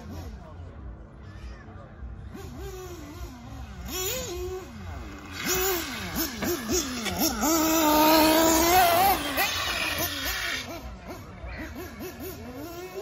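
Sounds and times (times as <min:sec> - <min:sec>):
rc car motor whining: 0:02.3 - 0:13.0.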